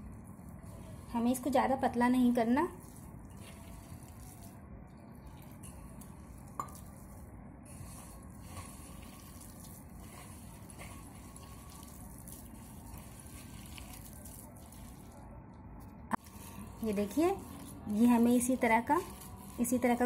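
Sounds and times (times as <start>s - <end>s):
wet stirring of batter: 0.0s - 15.3s, 16.1s - 20.0s.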